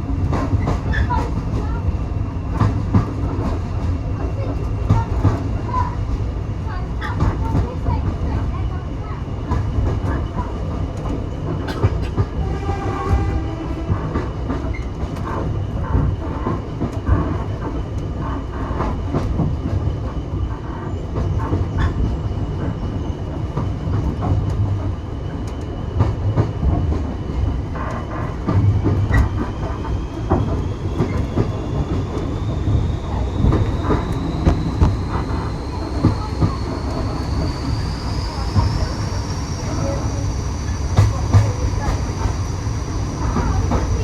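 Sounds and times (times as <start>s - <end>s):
train wheels rumbling on track: 0.0s - 44.0s
rail joint clicks and knocks: 0.1s - 44.0s.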